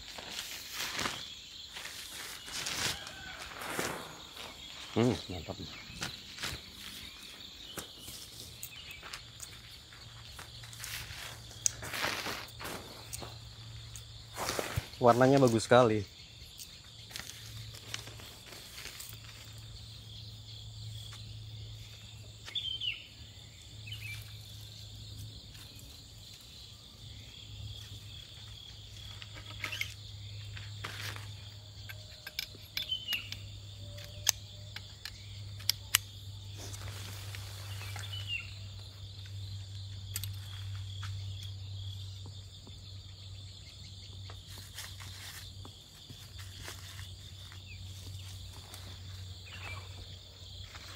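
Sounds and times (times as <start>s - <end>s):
crickets and insects droning: 0.0s - 50.9s.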